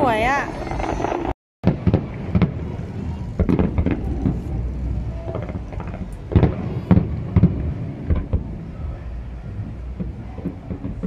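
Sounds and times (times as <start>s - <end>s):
low rumble: 0.0s - 11.0s
distant fireworks booms: 0.5s - 11.0s.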